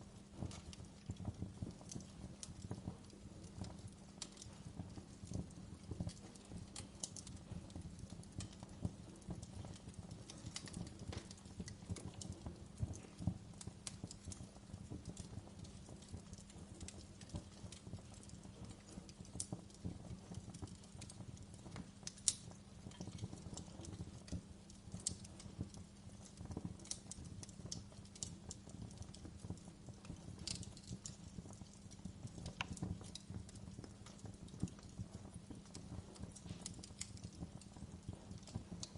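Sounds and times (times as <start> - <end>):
low steady fire rumble: 0.0 - 38.9
wood fire crackling and popping: 0.0 - 38.9.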